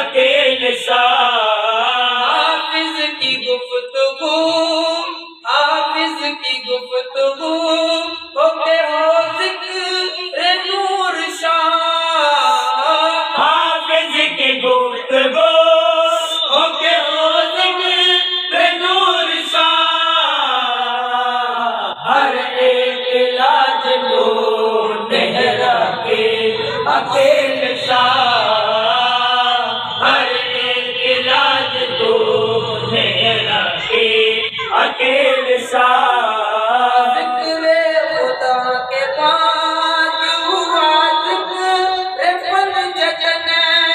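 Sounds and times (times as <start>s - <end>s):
men chanting together: 0.0s - 3.6s, 9.2s - 41.9s.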